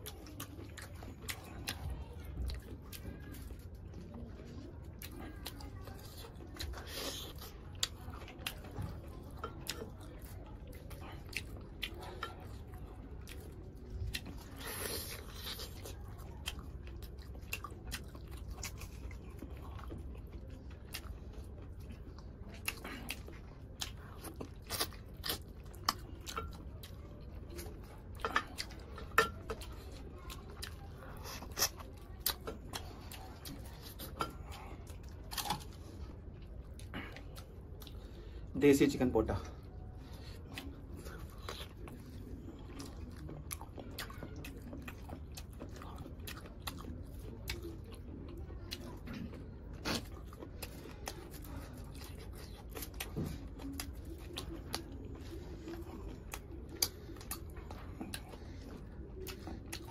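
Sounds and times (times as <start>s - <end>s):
person chewing and biting: 5.0s - 38.1s, 40.1s - 59.9s.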